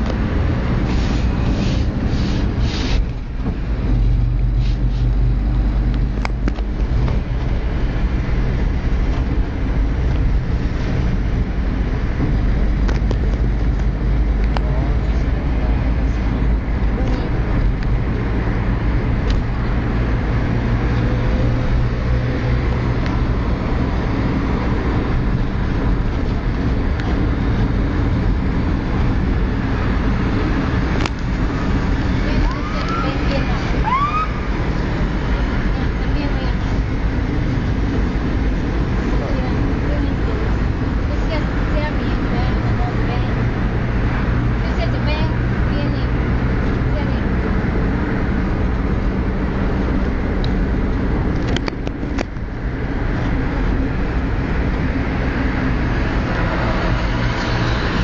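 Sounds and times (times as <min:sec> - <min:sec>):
car engine and tyre noise: 0:00.0 - 0:58.0
passing traffic: 0:00.0 - 0:58.0.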